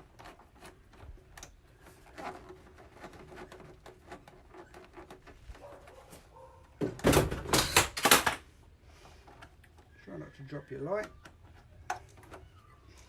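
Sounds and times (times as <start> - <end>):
rubber tubing scraping and clattering: 0.0 - 13.0.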